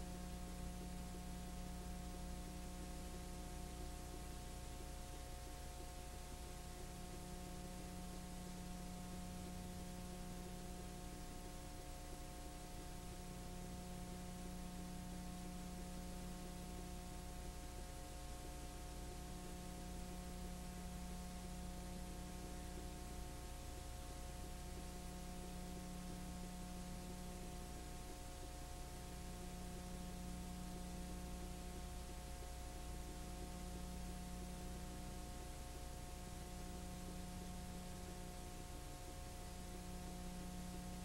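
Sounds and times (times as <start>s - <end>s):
constant hiss: 0.0s - 41.0s
electrical hum: 0.0s - 41.0s.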